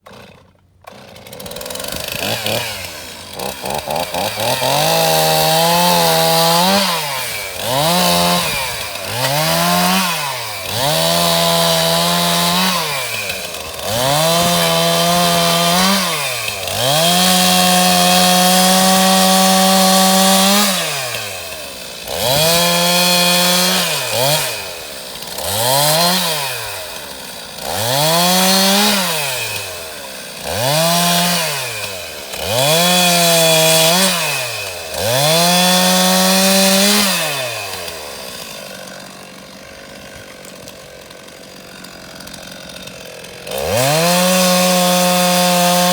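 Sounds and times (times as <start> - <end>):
chainsaw revving while cutting wood: 0.0 - 45.9.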